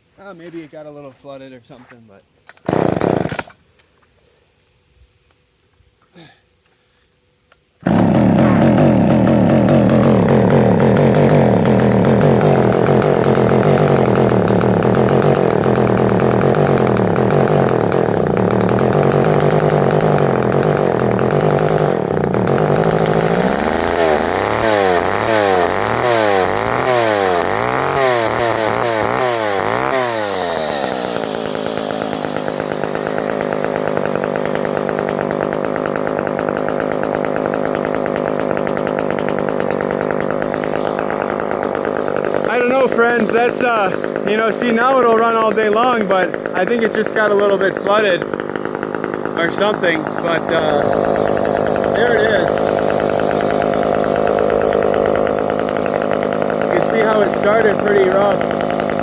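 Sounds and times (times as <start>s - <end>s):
chainsaw engine revving and idling: 2.6s - 3.6s, 7.8s - 59.0s.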